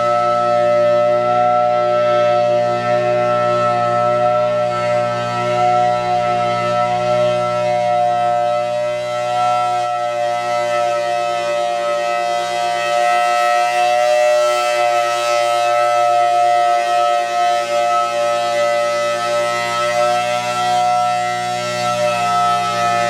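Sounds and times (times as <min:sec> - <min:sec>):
dual-tone siren chord: 0:00.0 - 0:23.0.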